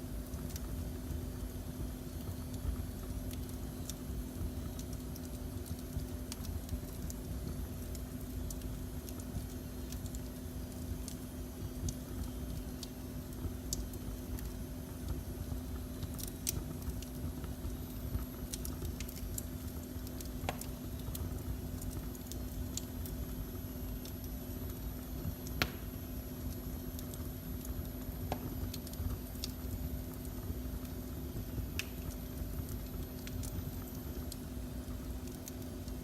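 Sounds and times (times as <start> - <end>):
faint constant hum: 0.0 - 36.0
fire popping: 0.0 - 36.0
wood fire crackling: 0.0 - 36.0.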